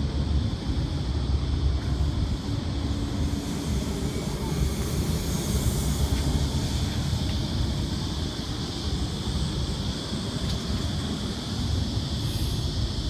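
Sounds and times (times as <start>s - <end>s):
electric train rumbling with hiss: 0.0s - 13.0s.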